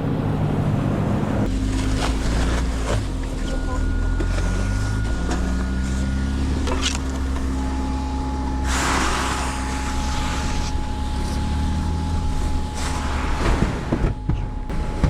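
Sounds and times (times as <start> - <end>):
suv engine running at low revs: 0.0 - 15.0
rushing noise: 1.4 - 15.0.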